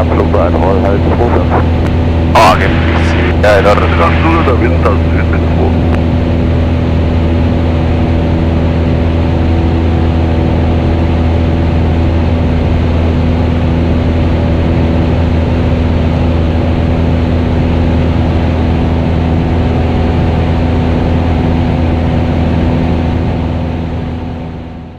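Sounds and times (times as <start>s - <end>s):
airplane engine droning: 0.0s - 24.9s.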